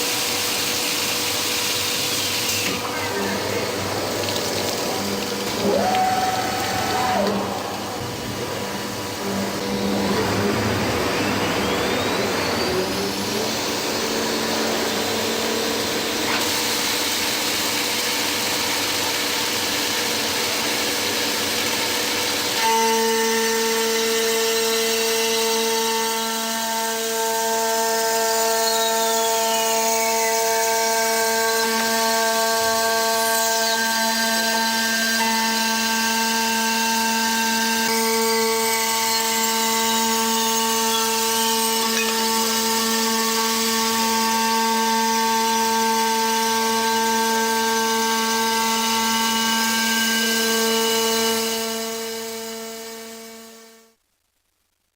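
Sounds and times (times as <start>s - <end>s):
glass milling machine whine: 0.0s - 53.4s.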